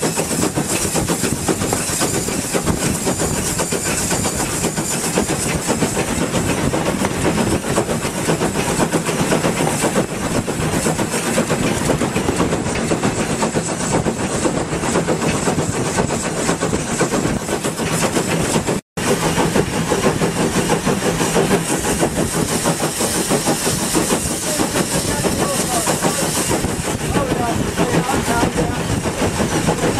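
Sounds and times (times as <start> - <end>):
steam locomotive running: 0.0 - 29.9.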